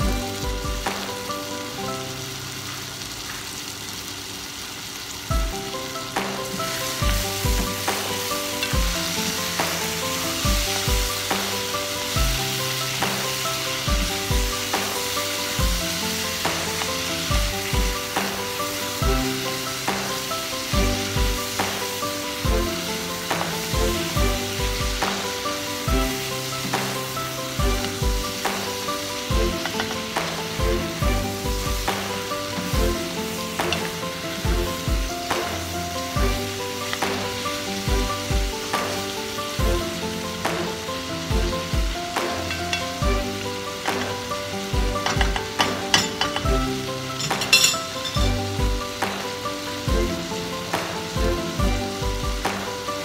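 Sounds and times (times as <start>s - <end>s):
background music with beat: 0.0s - 2.1s, 5.3s - 53.0s
vegetables sizzling in a pot: 0.0s - 53.0s.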